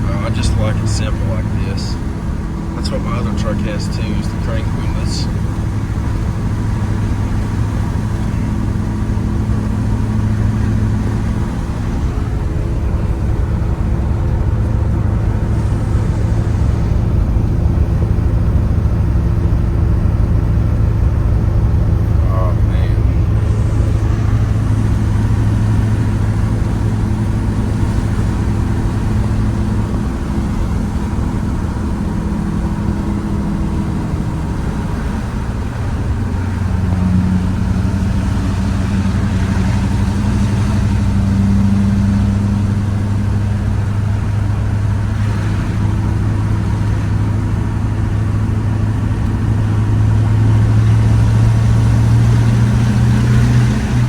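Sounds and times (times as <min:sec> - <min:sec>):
diesel truck engine droning: 0:00.0 - 0:54.0.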